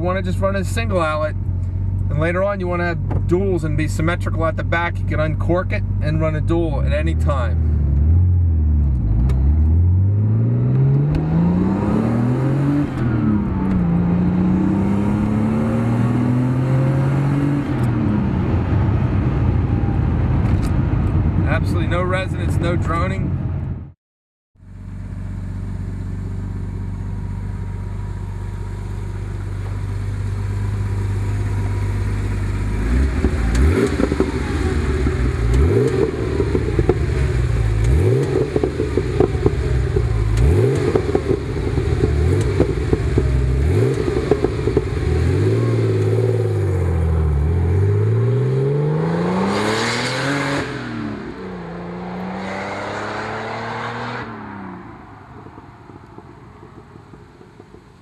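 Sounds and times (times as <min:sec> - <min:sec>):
car engine idling and revving: 0:00.0 - 0:24.0, 0:24.6 - 0:58.0.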